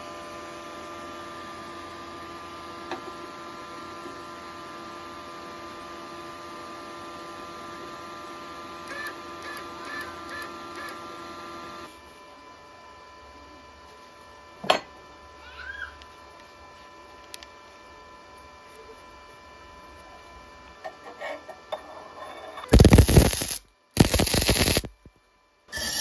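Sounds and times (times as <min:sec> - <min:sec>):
wire feed motor whine: 0:00.0 - 0:26.0.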